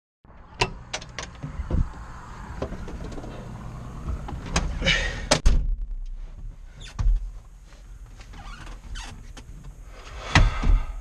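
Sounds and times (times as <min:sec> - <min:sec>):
low steady rumble: 0:00.3 - 0:11.0.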